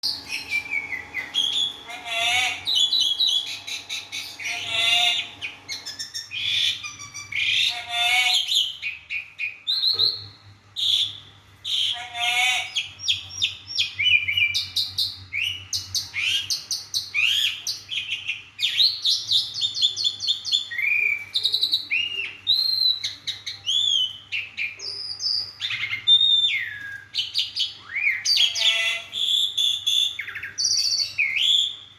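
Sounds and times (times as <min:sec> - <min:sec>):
bird singing whistles and trills: 0:00.0 - 0:11.2, 0:12.7 - 0:31.9.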